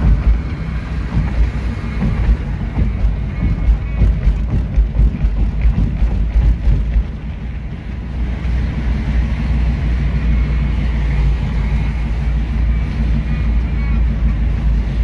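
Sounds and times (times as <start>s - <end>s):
car engine and tyre rumble: 0.0s - 15.0s
wind buffeting: 0.0s - 15.0s.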